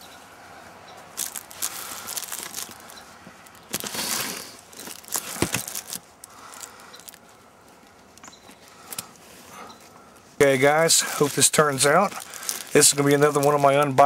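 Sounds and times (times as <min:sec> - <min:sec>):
plastic shrink-wrap crinkling: 0:01.1 - 0:09.2, 0:10.4 - 0:14.0.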